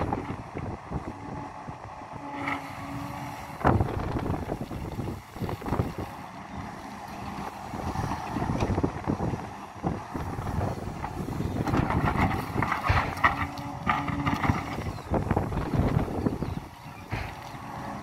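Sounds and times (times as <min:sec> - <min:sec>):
excavator diesel engine under load: 0:00.0 - 0:18.0
wind on microphone: 0:00.0 - 0:18.0.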